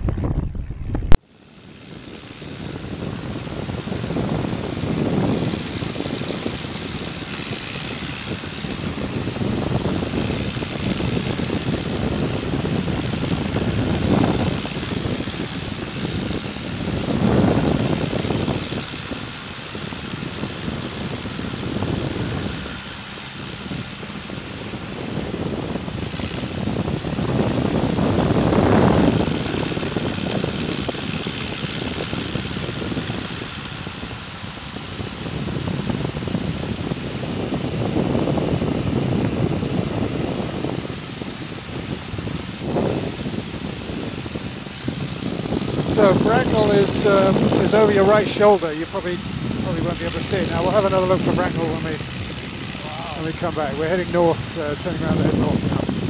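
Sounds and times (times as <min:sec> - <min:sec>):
biplane engine and propeller: 0:00.0 - 0:56.0
rushing wind: 0:00.0 - 0:56.0.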